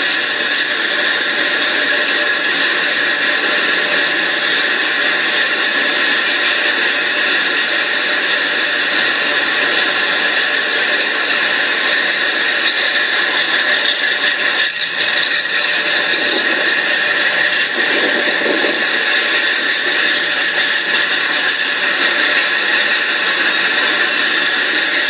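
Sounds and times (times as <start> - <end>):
steel wheels on rails: 0.0 - 25.0
wheel squeal: 0.0 - 25.0.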